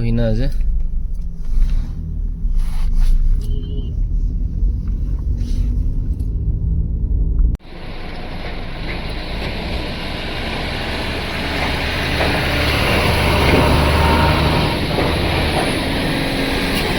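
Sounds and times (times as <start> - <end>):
road noise: 0.0 - 16.9
vehicle engine rumble: 0.0 - 16.9.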